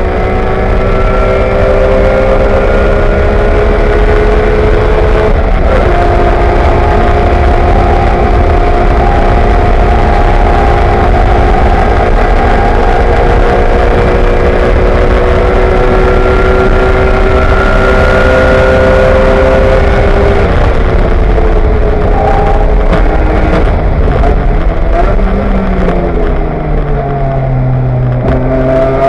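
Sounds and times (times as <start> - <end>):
loud wind and road noise: 0.0 - 29.0
race car engine under hard throttle: 0.0 - 29.0.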